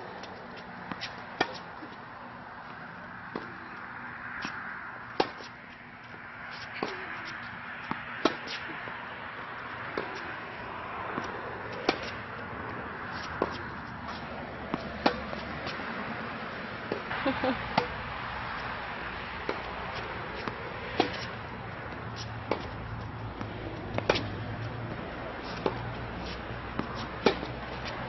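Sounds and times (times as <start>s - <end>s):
tennis balls struck by racquets: 0.1s - 2.0s, 2.9s - 9.0s, 9.6s - 28.0s.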